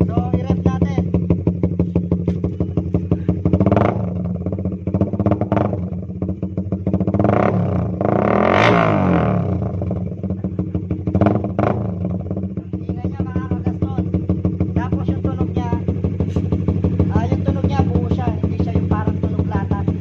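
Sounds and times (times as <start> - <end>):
exhaust popping: 0.0 - 20.0
motorcycle engine idling and revving: 0.0 - 20.0.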